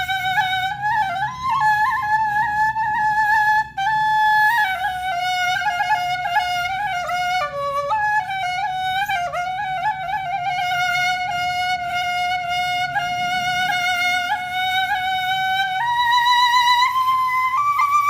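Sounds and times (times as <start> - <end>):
flute playing slow melody: 0.0 - 18.0.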